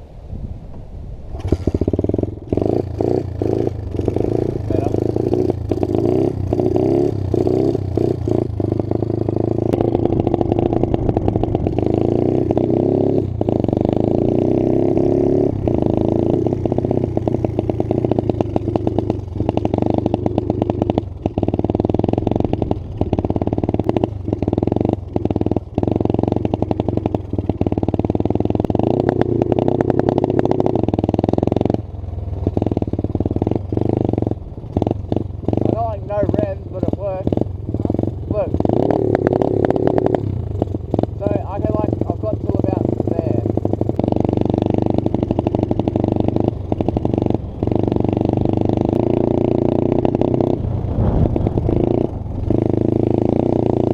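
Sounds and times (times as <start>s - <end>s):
small motorbike engine revving: 1.3s - 53.9s.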